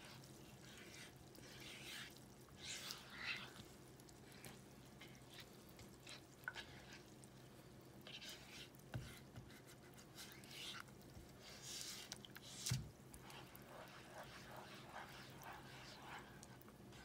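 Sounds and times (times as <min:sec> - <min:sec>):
spatula stirring batter: 0:00.0 - 0:17.0.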